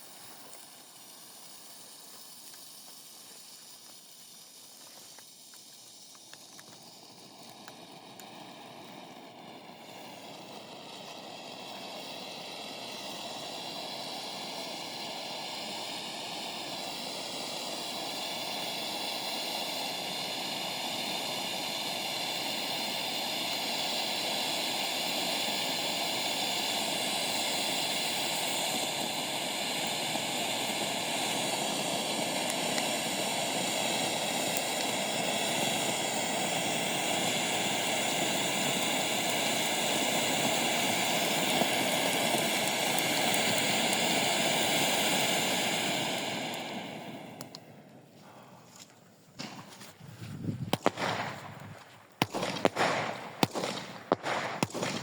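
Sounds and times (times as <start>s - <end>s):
firework fountain hissing: 0.0s - 55.0s.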